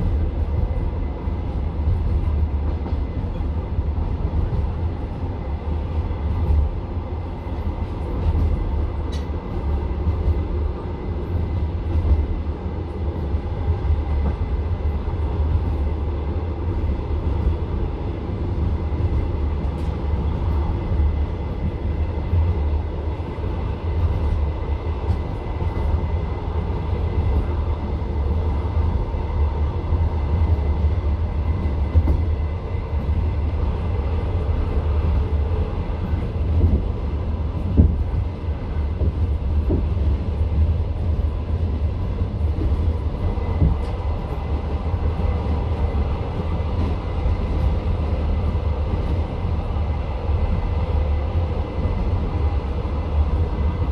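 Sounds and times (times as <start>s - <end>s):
train wheels rumbling: 0.0s - 53.9s.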